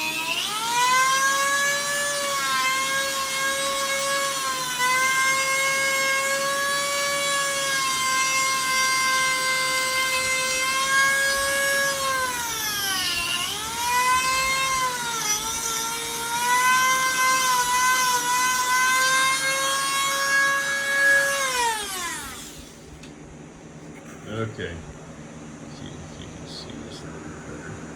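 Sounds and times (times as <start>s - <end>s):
rotary tool sanding wood: 0.0s - 22.8s.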